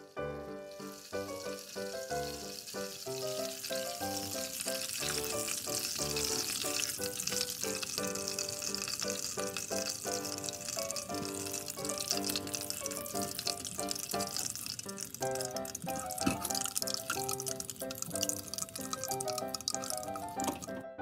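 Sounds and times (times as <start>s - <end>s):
butter sizzling in a saucepan: 0.0s - 20.8s
background music: 0.0s - 21.0s
spatula stirring: 0.7s - 20.7s.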